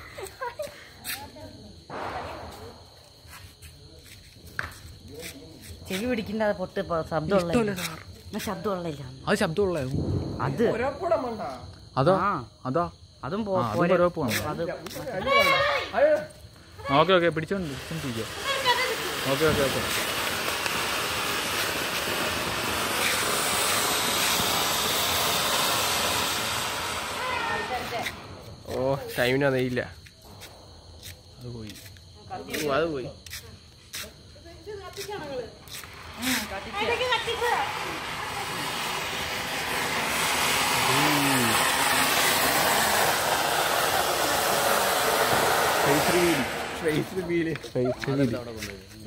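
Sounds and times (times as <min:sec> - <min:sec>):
firework fountain hissing: 0:00.0 - 0:49.0.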